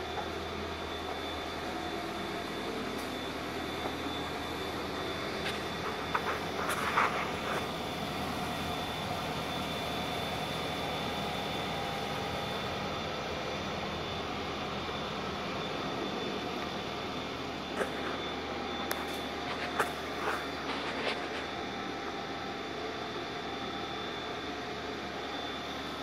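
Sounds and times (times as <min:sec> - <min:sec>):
mechanical hum with high whine: 0:00.0 - 0:26.0.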